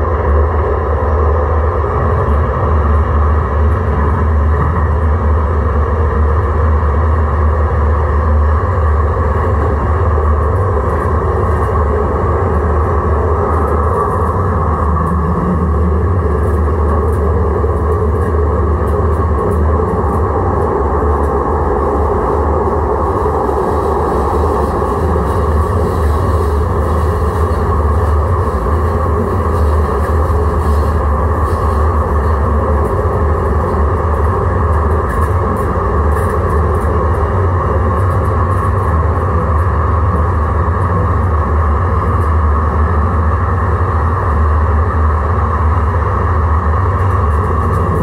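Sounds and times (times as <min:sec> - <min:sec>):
light-rail car humming: 0:00.0 - 0:48.0.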